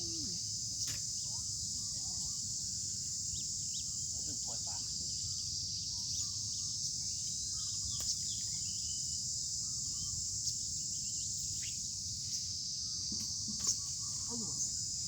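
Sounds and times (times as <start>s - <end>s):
faint bird chirps: 0.0s - 15.0s
insect chorus drone: 0.0s - 15.0s.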